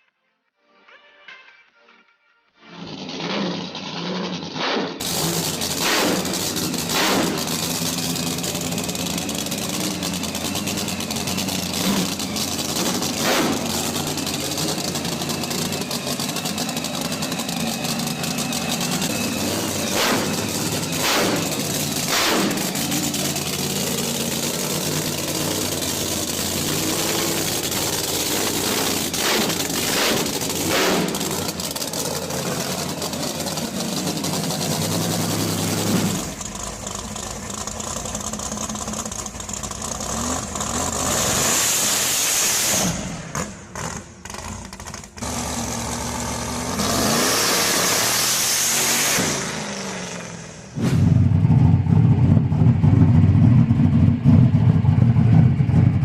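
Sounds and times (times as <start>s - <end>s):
car engine idling and revving: 2.6s - 56.0s.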